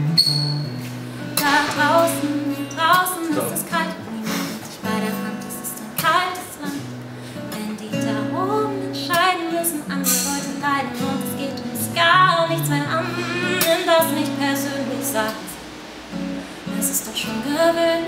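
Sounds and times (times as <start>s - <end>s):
acoustic guitar strumming: 0.0s - 18.0s
woman singing: 1.2s - 15.6s, 16.2s - 18.0s.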